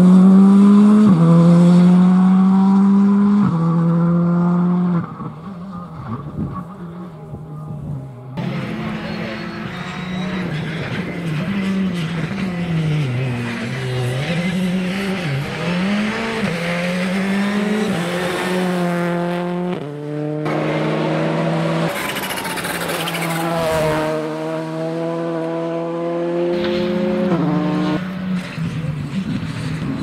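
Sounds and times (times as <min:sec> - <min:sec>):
rally car engines accelerating: 0:00.0 - 0:30.0.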